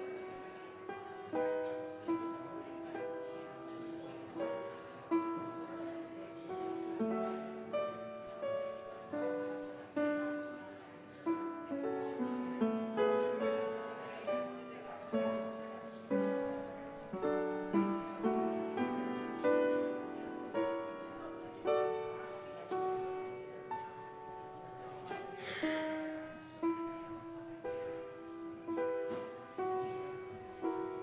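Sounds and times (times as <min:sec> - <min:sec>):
slow piano music: 0:00.0 - 0:31.0.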